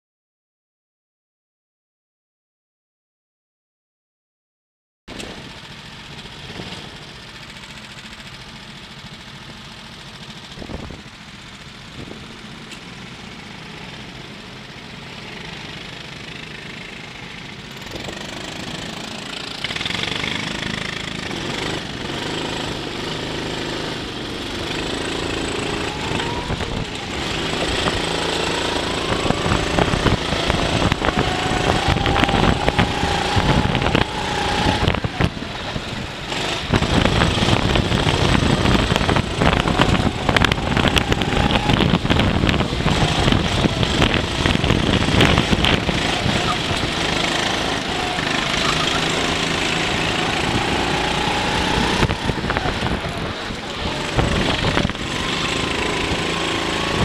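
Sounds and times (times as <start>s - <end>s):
kart engines: 5.1s - 57.0s.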